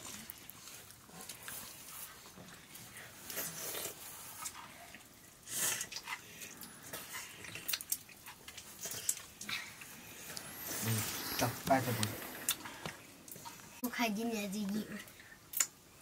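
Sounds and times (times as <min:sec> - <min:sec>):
chewing: 0:00.0 - 0:13.7.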